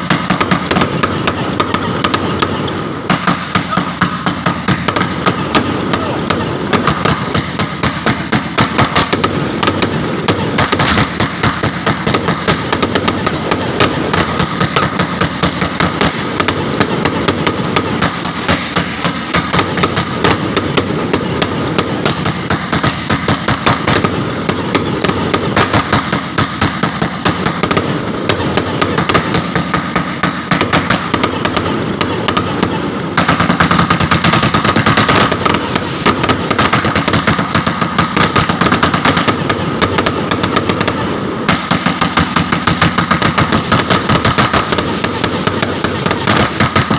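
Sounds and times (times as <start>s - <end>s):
firecrackers crackling: 0.0s - 46.9s.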